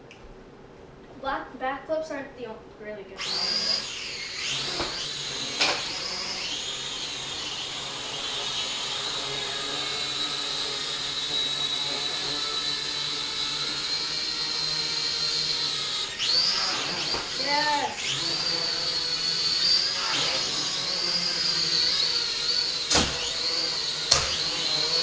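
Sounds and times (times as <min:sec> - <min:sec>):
drone propellers whining: 0:03.2 - 0:25.0.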